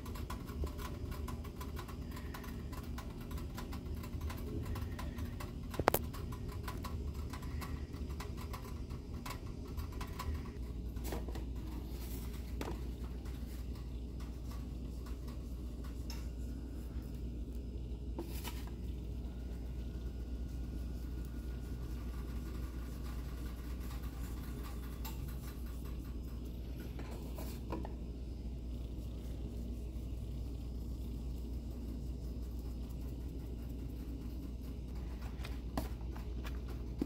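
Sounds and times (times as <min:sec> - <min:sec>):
low hum: 0:00.0 - 0:37.0.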